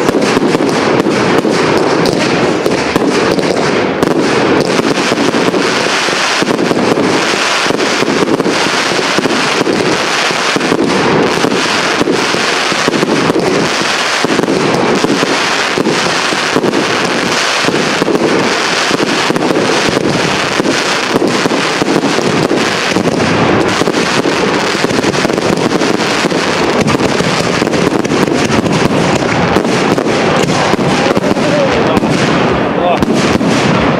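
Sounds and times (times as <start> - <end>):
fireworks bursting and crackling: 0.0 - 33.9.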